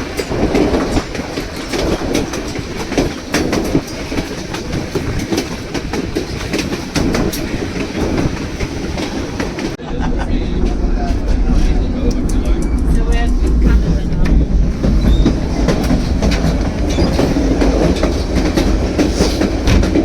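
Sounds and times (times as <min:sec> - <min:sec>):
rumble of train cars: 0:00.0 - 0:20.0
train wheels clattering over rails: 0:00.0 - 0:20.0.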